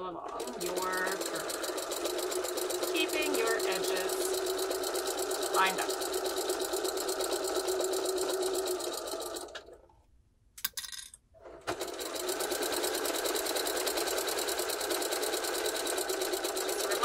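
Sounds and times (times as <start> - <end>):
sewing machine stitching: 0.2 - 9.8, 11.4 - 17.0.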